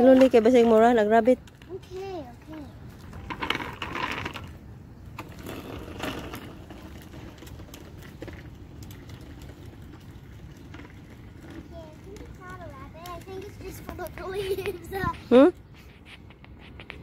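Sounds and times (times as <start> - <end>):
training wheels rattling and clicking: 0.0 - 15.5
bicycle rolling on concrete: 0.0 - 17.0.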